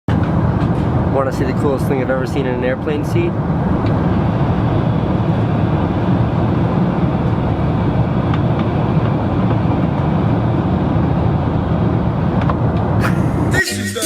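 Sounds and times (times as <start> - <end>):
airliner cabin engine rumble: 0.1 - 13.7.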